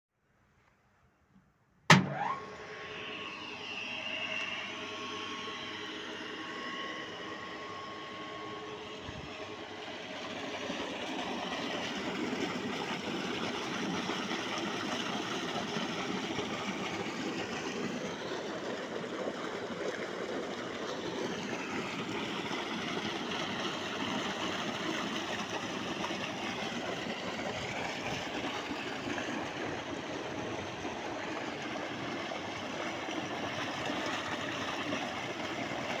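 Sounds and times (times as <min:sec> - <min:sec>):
electric motor and pump running: 0:01.9 - 0:36.0
water gushing into a tank: 0:04.6 - 0:36.0.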